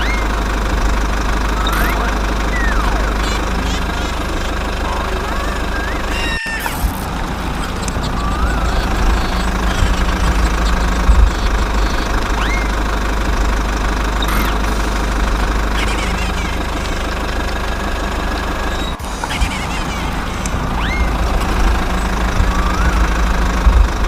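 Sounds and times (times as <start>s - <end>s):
short squeaks: 0.0s - 4.7s, 5.3s - 24.0s
knocking engine rumble: 0.0s - 24.0s.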